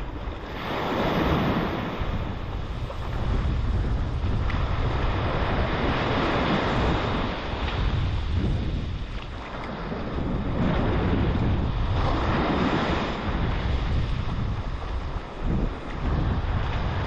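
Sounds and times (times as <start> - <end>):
small waves washing on sand: 0.0 - 17.0
wind buffeting microphone: 0.0 - 17.0.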